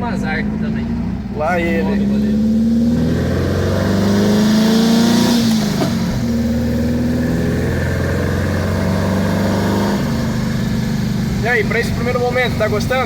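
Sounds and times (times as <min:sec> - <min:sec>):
car engine under load: 0:00.0 - 0:13.0.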